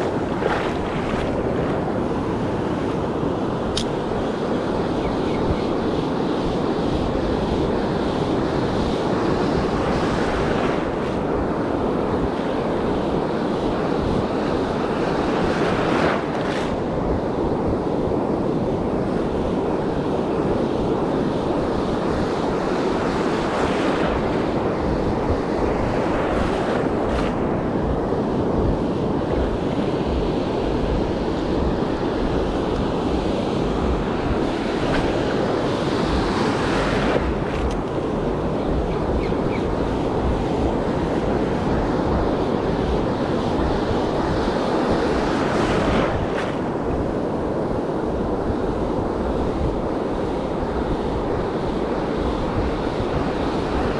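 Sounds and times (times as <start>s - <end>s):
ocean surf breaking: 0.0s - 5.0s, 5.8s - 53.9s
wind buffeting microphone: 0.0s - 53.9s.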